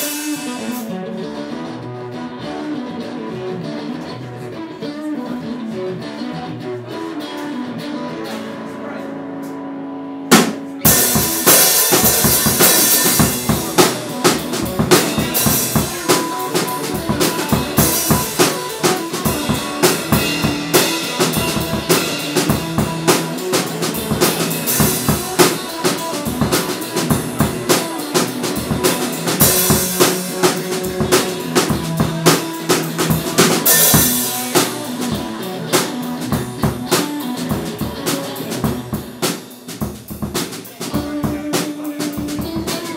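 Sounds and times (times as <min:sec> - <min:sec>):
drum kit beat: 0:00.0 - 0:08.6, 0:10.3 - 0:42.9
electric guitar playing: 0:00.0 - 0:42.9.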